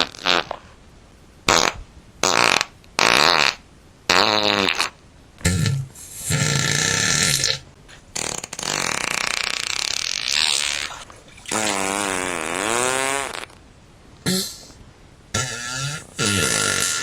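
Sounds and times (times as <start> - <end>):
fart sound effects: 0.0 - 0.6, 1.5 - 13.6, 14.2 - 17.0.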